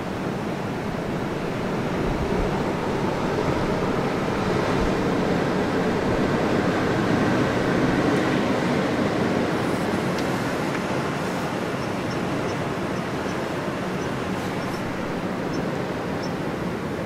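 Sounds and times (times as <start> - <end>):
ocean surf roaring: 0.0 - 17.0.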